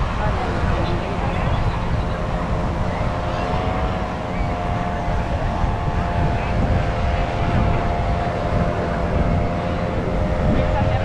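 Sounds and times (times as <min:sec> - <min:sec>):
dense low rumble: 0:00.0 - 0:11.0
engine drone: 0:00.0 - 0:11.0.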